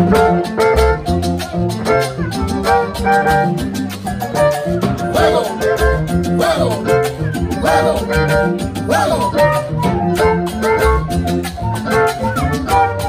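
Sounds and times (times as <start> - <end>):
salsa band playing: 0.0 - 13.0.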